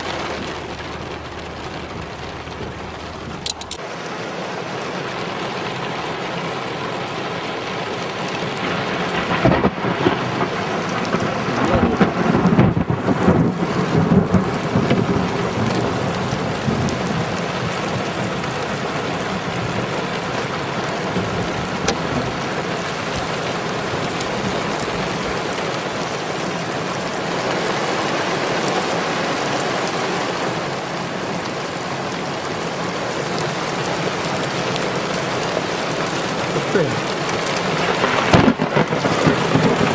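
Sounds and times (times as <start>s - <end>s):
rain and wind on vehicle: 0.0s - 39.9s.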